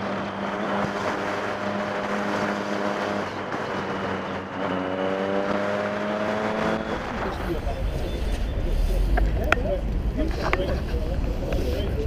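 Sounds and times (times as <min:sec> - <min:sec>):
motorcycle engine: 0:00.0 - 0:10.0
wind and road noise: 0:00.0 - 0:12.0.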